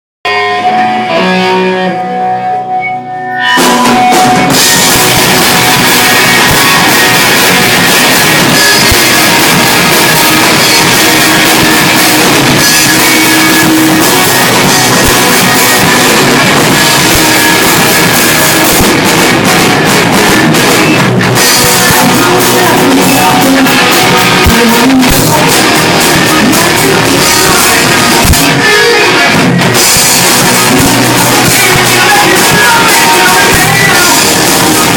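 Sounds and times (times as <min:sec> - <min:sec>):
drums: 0:00.2 - 0:34.9
lone electric guitar: 0:00.2 - 0:34.9
rock band playing live: 0:00.2 - 0:34.9.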